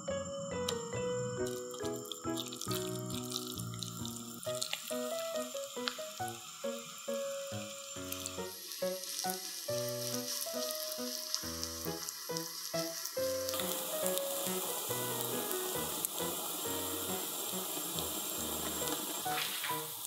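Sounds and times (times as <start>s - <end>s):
light background music: 0.0s - 20.0s
food sizzling in frying pan: 1.4s - 20.0s.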